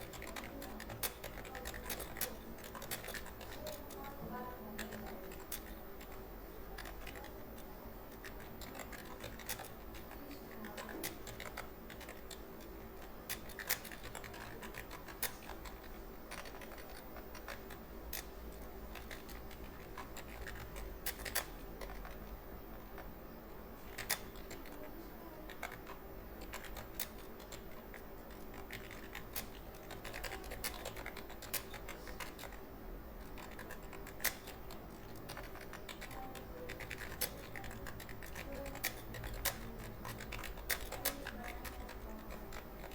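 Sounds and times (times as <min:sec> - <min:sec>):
keyboard keys clicking rapidly: 0:00.0 - 0:23.2, 0:23.8 - 0:42.9.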